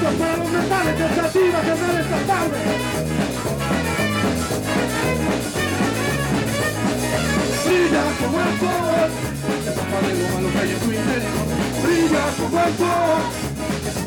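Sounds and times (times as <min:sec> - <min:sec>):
ska band playing: 0:00.0 - 0:14.0
trombone and trumpet melody: 0:00.0 - 0:14.0.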